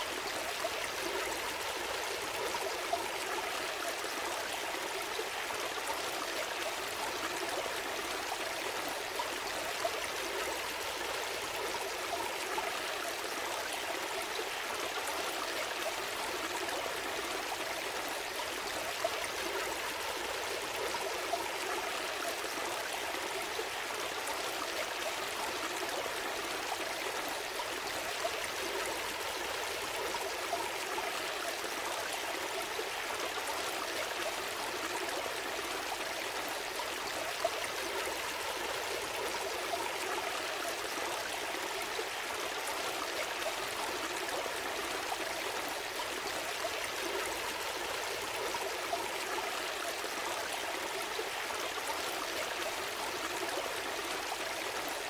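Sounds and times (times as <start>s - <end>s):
stream babbling and trickling: 0.0s - 55.0s.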